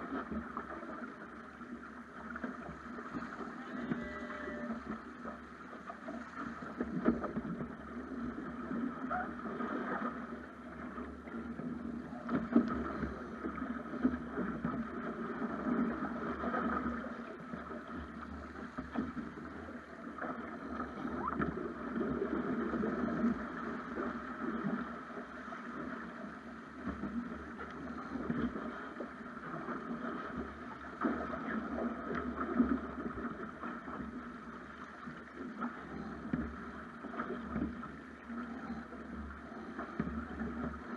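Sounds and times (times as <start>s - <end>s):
water rushing along boat hull: 0.0s - 40.9s.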